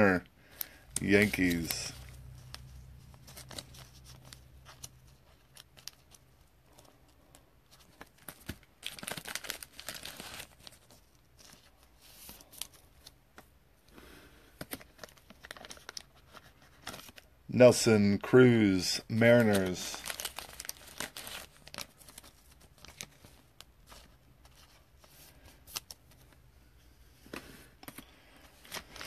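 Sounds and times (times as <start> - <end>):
plastic wrapper crinkling: 0.5 - 13.2, 14.6 - 17.4, 19.0 - 26.4, 27.8 - 29.0.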